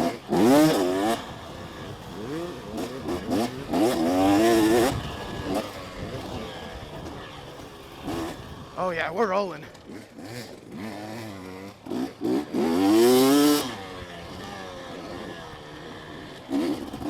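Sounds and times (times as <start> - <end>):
two-stroke dirt bike engine revving: 0.0 - 17.0.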